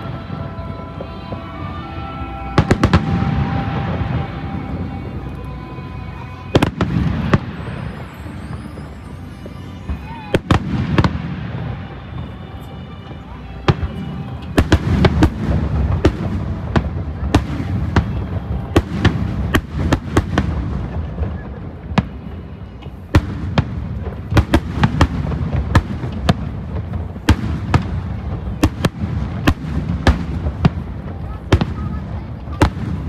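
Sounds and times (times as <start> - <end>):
low rumble of echoing explosions: 0.0 - 33.0.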